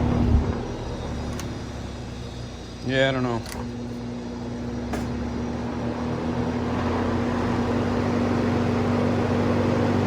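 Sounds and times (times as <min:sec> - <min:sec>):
electric fan motor hum: 0:00.0 - 0:10.0.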